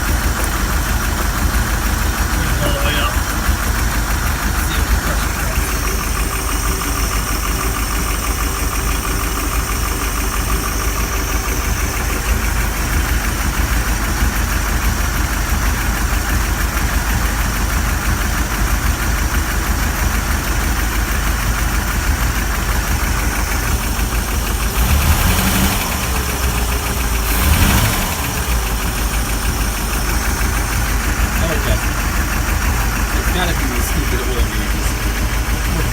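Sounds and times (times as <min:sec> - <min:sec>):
boat engine idling: 0:00.0 - 0:35.9
rapid valve ticking: 0:00.0 - 0:35.9.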